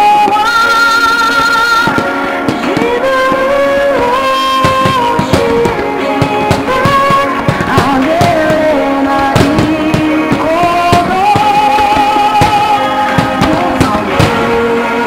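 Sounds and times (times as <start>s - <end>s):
fireworks bursting: 0.0s - 15.0s
music with sung melody: 0.0s - 15.0s.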